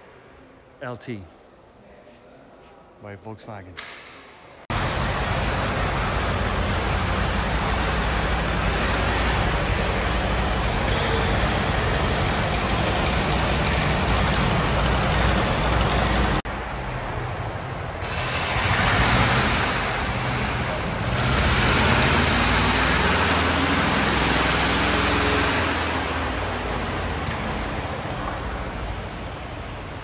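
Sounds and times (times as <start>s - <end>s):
vehicle engine running: 4.7s - 30.0s.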